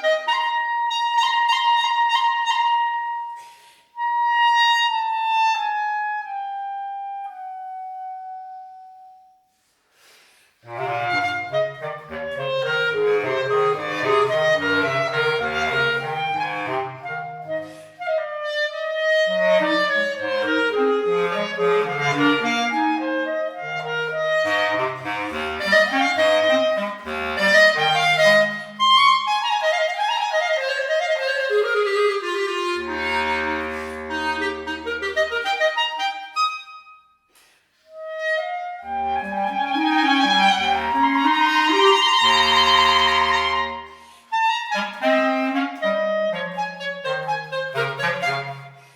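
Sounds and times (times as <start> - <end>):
clarinet melody: 0.0 - 9.7, 10.6 - 48.9.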